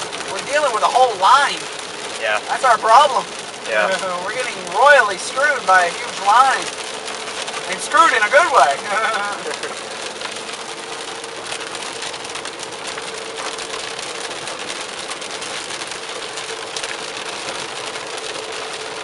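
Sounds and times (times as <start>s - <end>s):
car hum: 0.0s - 19.0s
heavy rain on car roof: 0.0s - 19.0s.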